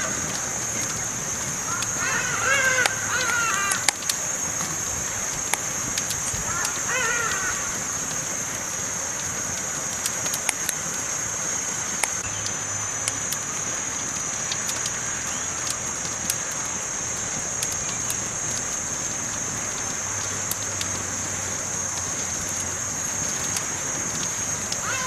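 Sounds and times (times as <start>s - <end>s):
campfire crackling: 0.0s - 25.0s
steady high-pitched hiss: 0.0s - 25.0s.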